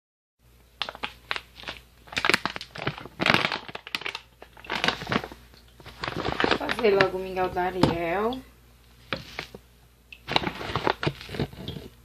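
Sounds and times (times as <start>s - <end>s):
crackling and crunching: 0.8s - 7.9s, 9.1s - 12.0s.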